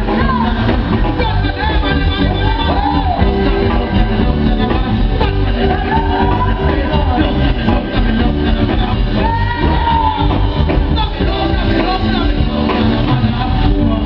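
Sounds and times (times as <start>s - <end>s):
heavy bass line: 0.0s - 14.0s
live band music: 0.0s - 14.0s
man singing: 0.0s - 14.0s.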